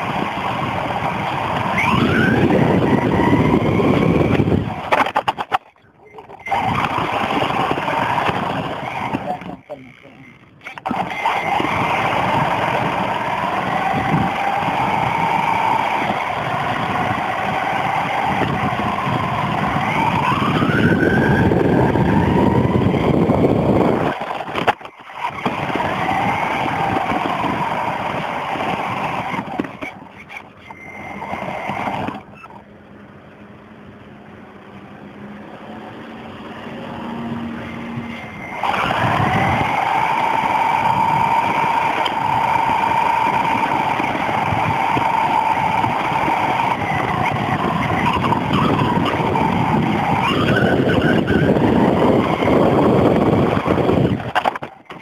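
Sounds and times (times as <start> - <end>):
electric motor whining: 0.0 - 32.9, 33.5 - 55.0
wheels rumbling on ground: 0.0 - 55.0.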